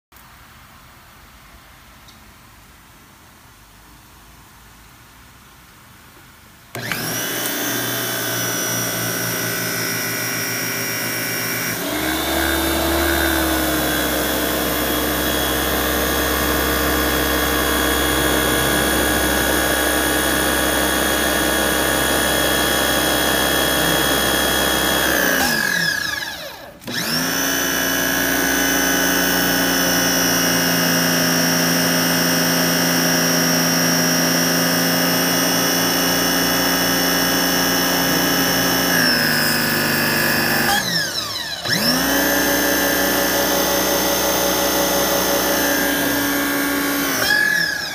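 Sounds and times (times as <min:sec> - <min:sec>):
pressure washer motor whining: 0:06.7 - 0:47.9.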